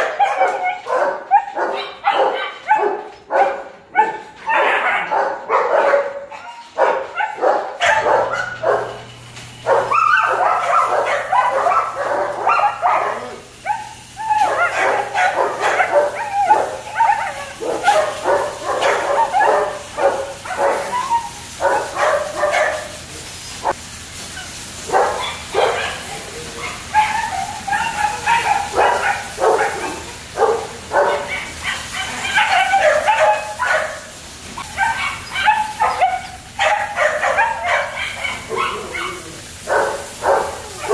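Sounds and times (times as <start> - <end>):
puppies barking and yipping: 0.0 - 40.9.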